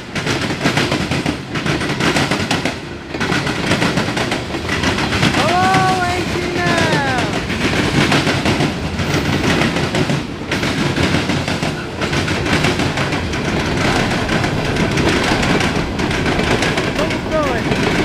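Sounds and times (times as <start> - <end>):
train wheels rumbling on rails: 0.0 - 18.0
wheels clacking over rail joints: 0.0 - 18.0.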